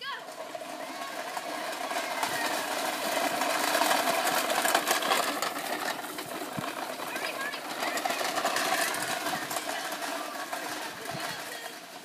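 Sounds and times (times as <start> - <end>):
toy truck wheels rattling over leaves: 0.0 - 12.0.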